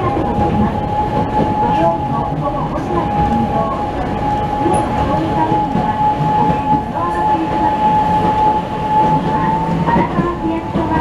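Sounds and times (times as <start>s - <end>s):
tram wheels rumbling: 0.0s - 11.0s.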